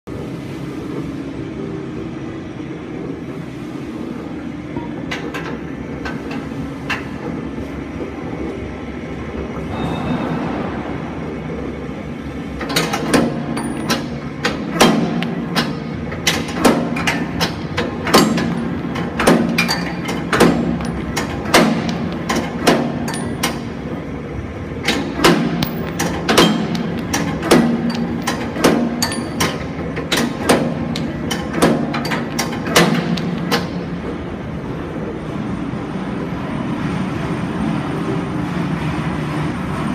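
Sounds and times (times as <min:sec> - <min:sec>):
steady low hum: 0:00.1 - 0:39.9.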